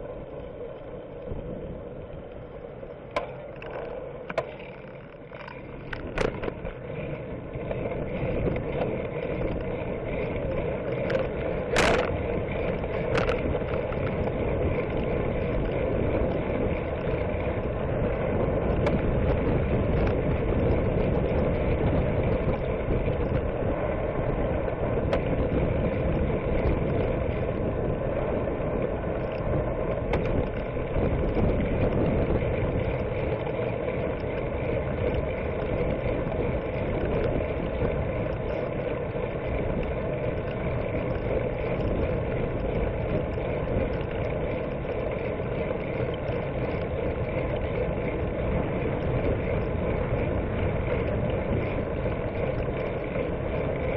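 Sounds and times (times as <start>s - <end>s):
bicycle tyres on pavement: 0.0s - 53.9s
wind rumble on microphone: 0.0s - 53.9s.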